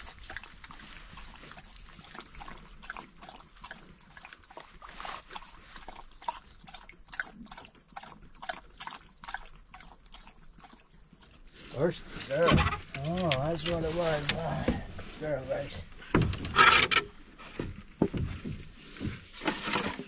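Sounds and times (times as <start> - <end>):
dog lapping water: 0.0 - 16.3.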